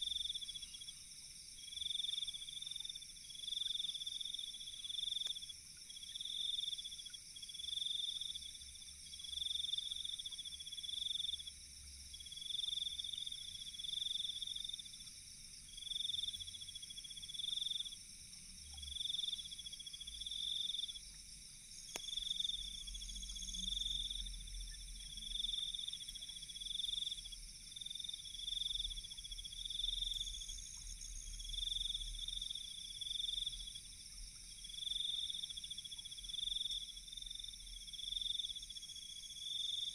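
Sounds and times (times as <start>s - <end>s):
insects chirping in pulsed trills: 0.0s - 39.9s.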